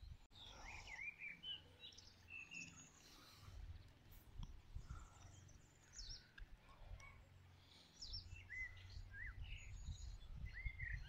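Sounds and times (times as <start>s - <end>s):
small birds chirping and warbling: 0.0s - 11.0s.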